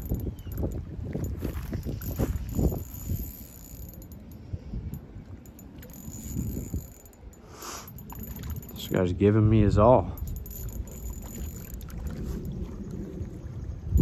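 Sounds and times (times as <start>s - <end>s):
fishing reel spinning: 0.0s - 9.2s, 9.9s - 12.6s.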